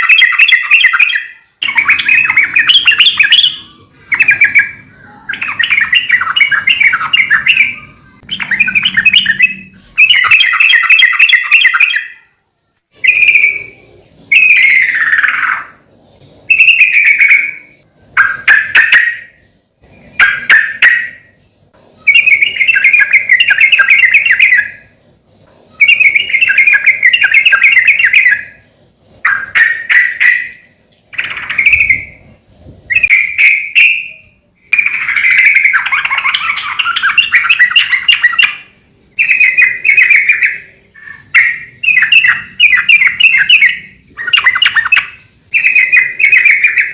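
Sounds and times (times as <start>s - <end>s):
bird chattering song: 0.0s - 12.3s, 12.9s - 25.0s, 25.6s - 32.3s, 32.9s - 46.9s.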